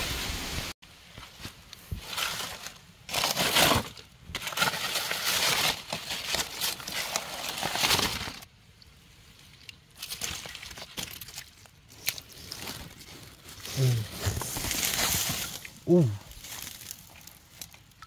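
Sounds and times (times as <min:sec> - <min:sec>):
dry leaves rustling and crackling: 0:01.1 - 0:08.5, 0:10.0 - 0:18.0.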